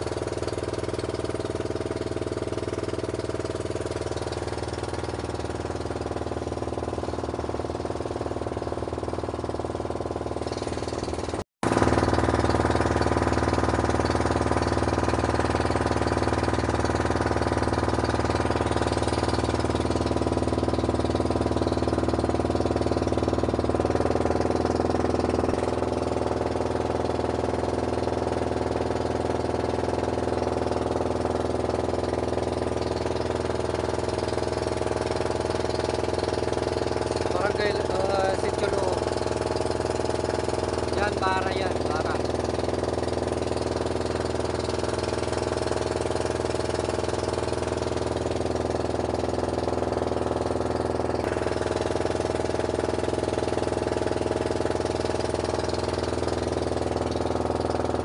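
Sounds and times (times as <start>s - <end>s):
motorboat engine running: 0.0s - 58.0s.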